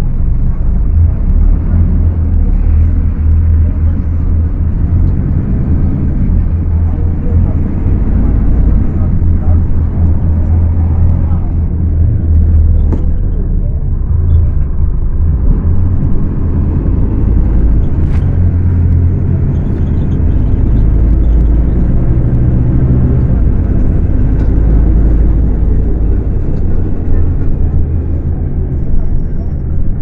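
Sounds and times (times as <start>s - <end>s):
bus diesel engine drone: 0.0s - 30.0s.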